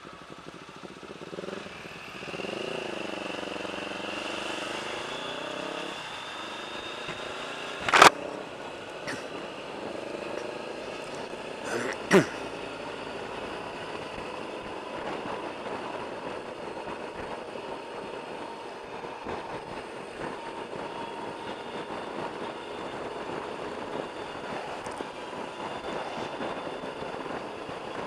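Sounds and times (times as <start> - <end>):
motorcycle running: 0.0 - 28.0.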